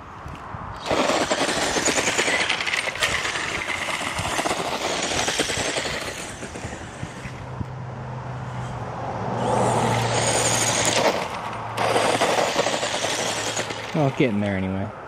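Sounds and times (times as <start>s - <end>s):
rc car wheels rattling rush: 0.8s - 7.6s, 9.4s - 14.7s.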